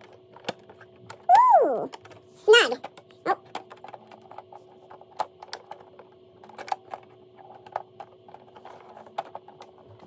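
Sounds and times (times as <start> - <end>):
plastic toy parts clicking: 0.0 - 9.8
faint steady hum: 0.0 - 10.0.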